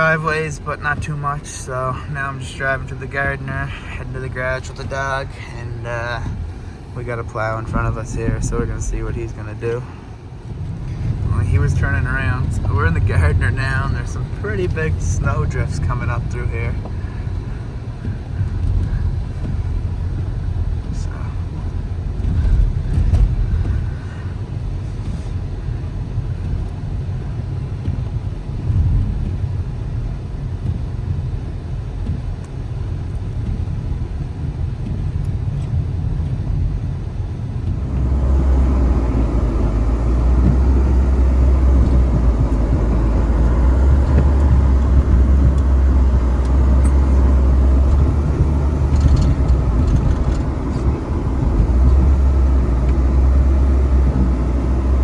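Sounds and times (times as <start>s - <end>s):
car driving through deep snow: 0.0s - 55.0s.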